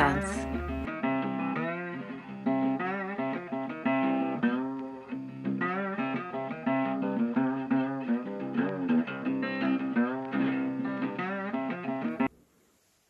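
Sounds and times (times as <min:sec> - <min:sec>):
guitar melody with bent notes: 0:00.0 - 0:12.3.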